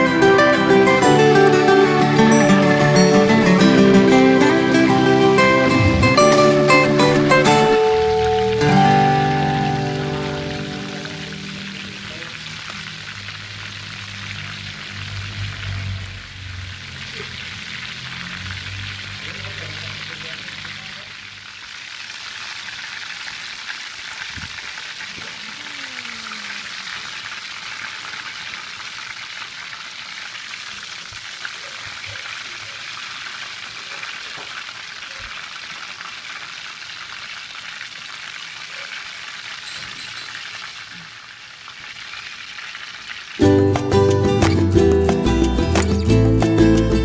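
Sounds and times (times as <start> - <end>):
oil sizzling while deep-frying: 0.0 - 47.0.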